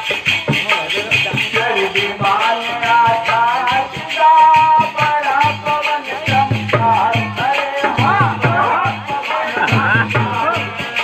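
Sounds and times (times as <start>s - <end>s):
dholak drum beats: 0.0s - 11.0s
jingling percussion: 0.0s - 11.0s.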